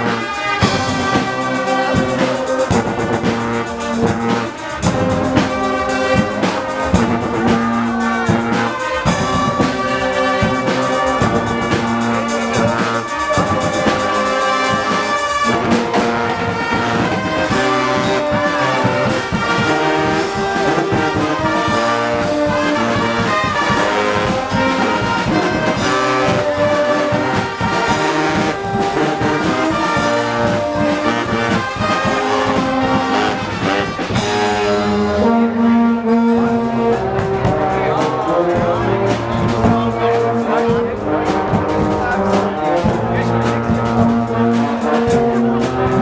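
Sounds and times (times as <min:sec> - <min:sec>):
bass drums: 0:00.0 - 0:46.0
drum kit: 0:00.0 - 0:46.0
trombones and trumpets: 0:00.0 - 0:46.0.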